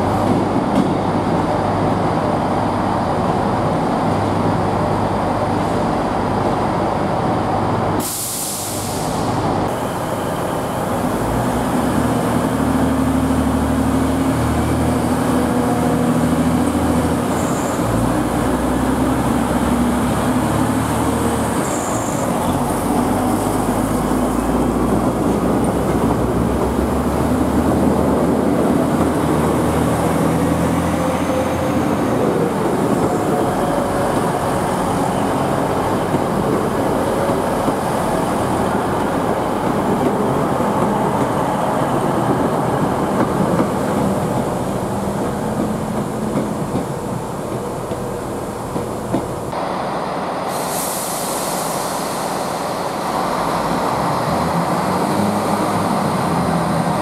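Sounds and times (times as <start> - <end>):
train wheels on rails: 0.0 - 4.6, 5.5 - 57.0
diesel train engines: 0.0 - 57.0.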